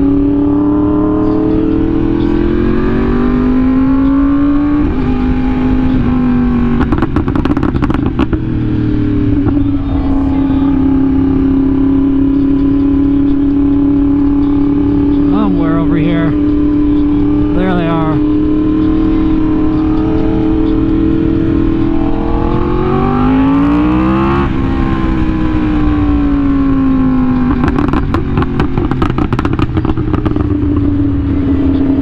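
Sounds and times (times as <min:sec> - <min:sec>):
engine crackles: 0:00.0 - 0:32.0
motorcycle engine accelerating: 0:00.0 - 0:32.0.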